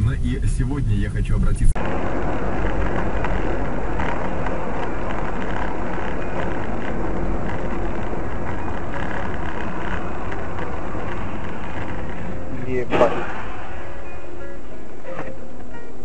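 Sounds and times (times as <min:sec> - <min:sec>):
car engine and road noise: 0:00.0 - 0:16.0
tyres on wet road: 0:00.0 - 0:16.0.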